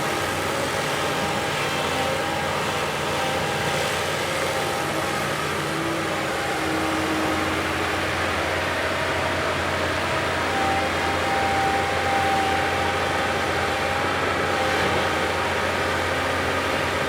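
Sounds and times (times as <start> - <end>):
diesel engine running steadily: 0.0 - 17.0
faint high whine: 0.0 - 17.0.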